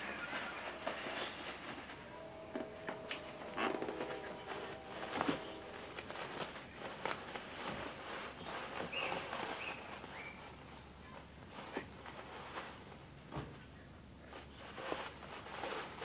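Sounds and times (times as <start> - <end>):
paper towels rustling: 0.0 - 16.0.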